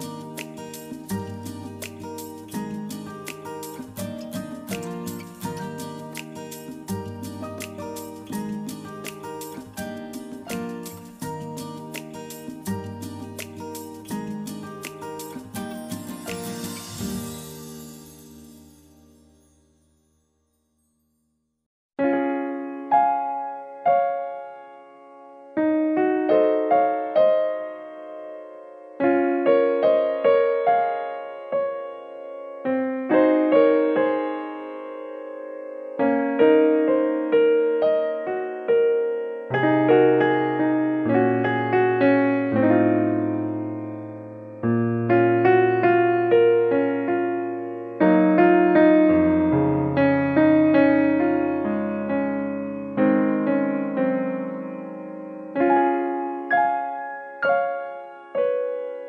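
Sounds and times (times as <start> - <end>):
slow solo piano music: 0.0 - 17.4, 22.0 - 59.0.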